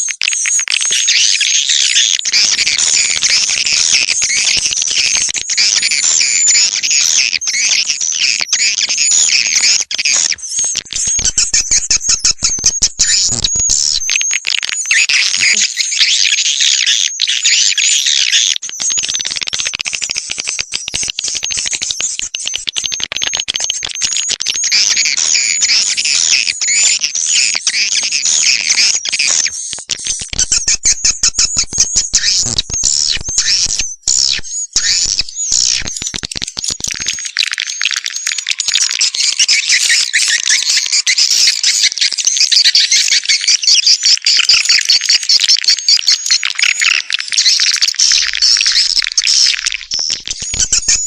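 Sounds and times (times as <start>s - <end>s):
swiftlets twittering and chirping: 0.0s - 51.0s.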